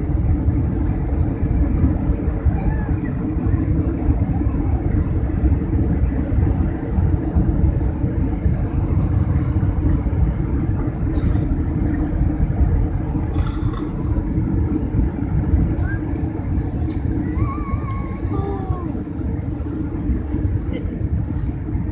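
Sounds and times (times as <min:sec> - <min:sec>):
jet engines rumbling: 0:00.0 - 0:21.9.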